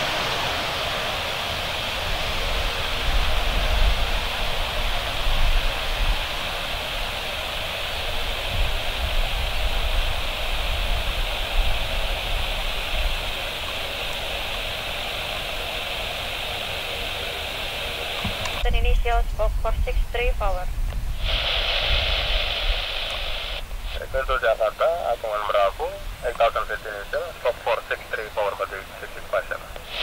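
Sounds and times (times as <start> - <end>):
wind on microphone: 0.0 - 24.3
turboprop engines roaring: 0.0 - 30.0.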